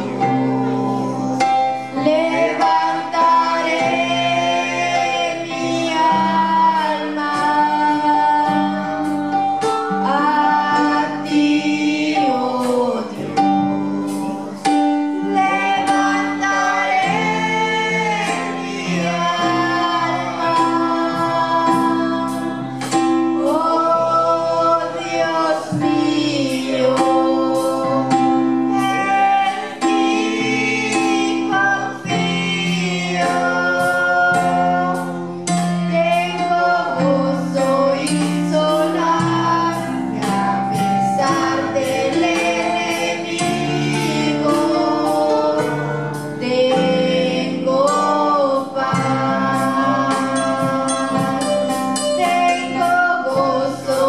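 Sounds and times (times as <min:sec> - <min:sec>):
woman singing into a microphone: 0:00.0 - 0:54.0.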